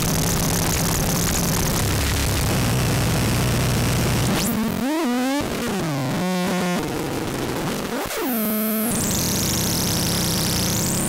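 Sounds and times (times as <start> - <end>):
buzzing synth tones: 0.0 - 6.9, 7.9 - 11.0.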